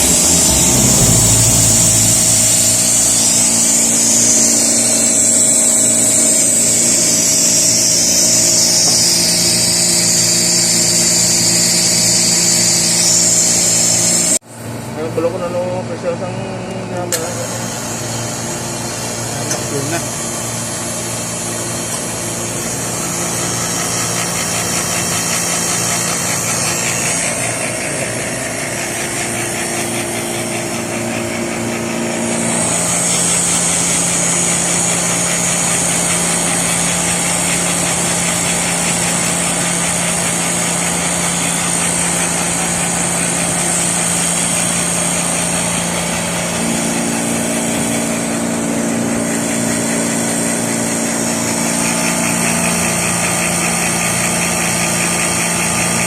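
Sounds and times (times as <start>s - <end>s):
refrigeration compressor humming: 0.0s - 56.0s.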